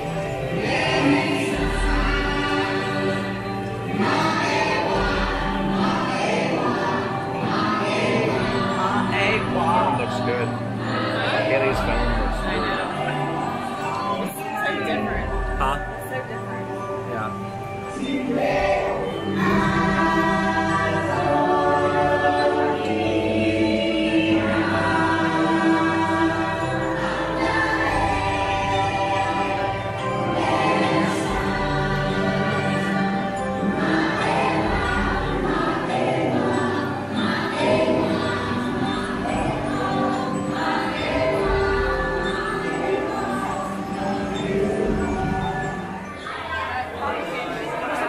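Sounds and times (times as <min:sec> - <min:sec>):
choir singing held chords: 0:00.0 - 0:48.0.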